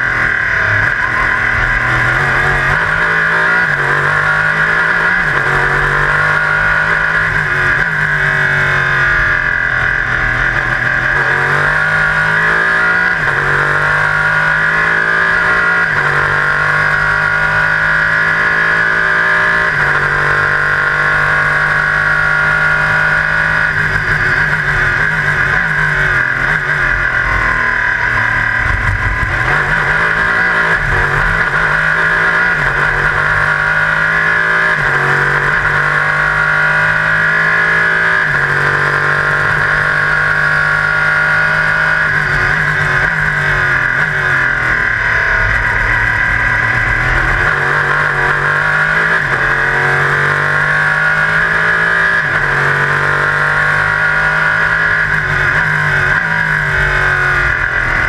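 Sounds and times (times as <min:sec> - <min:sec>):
race car engine shifting gears: 0:00.0 - 0:58.0.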